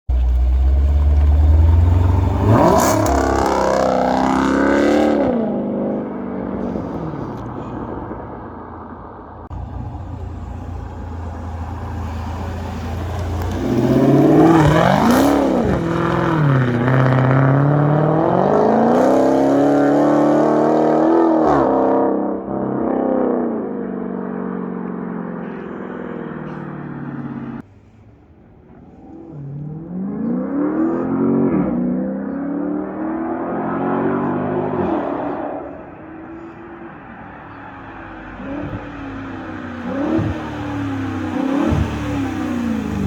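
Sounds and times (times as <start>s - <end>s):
car engine accelerating hard: 0.1s - 27.6s, 29.0s - 43.0s.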